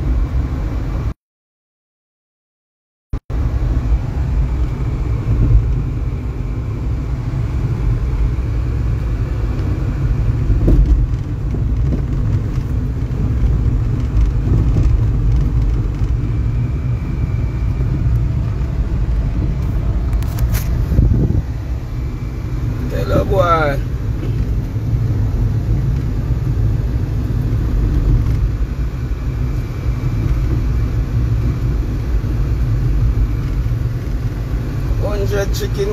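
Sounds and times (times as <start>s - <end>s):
car cabin rumble: 3.3s - 35.9s.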